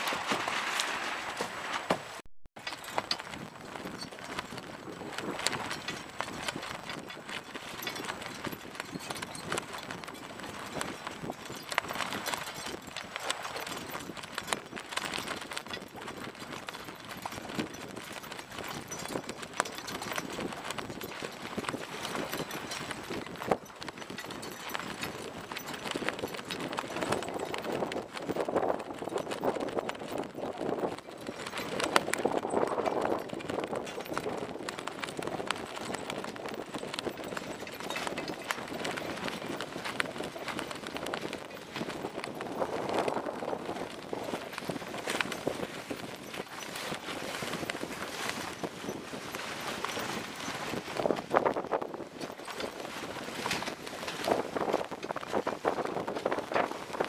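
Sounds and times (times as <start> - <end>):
wind: 0.0 - 57.0.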